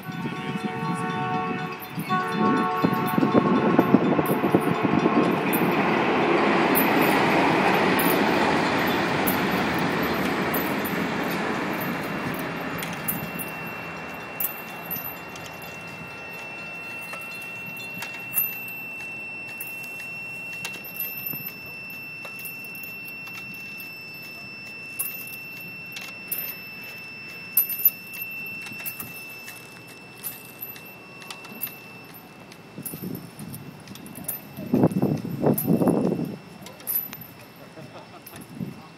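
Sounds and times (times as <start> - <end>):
high-pitched whine: 0.0 - 38.7
metal chains clinking: 0.0 - 38.9.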